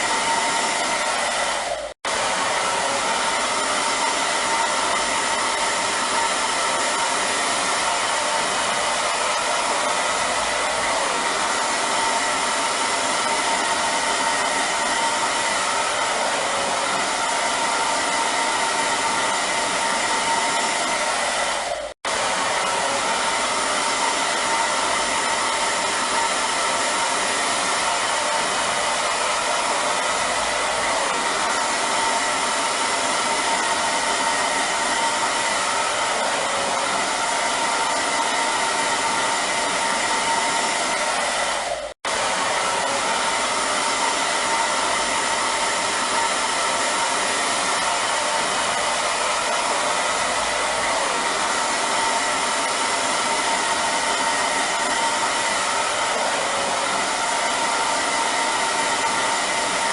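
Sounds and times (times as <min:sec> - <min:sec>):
hair dryer blowing air: 0:00.0 - 0:59.9.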